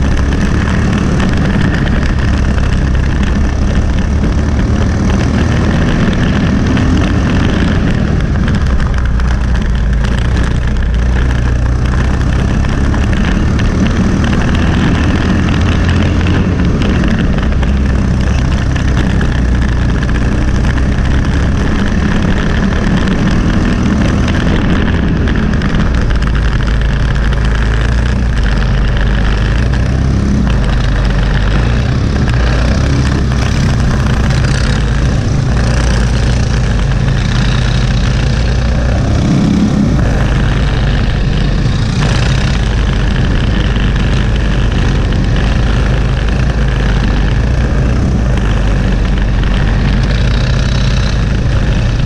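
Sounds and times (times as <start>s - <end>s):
kart engine running: 0.0s - 52.0s.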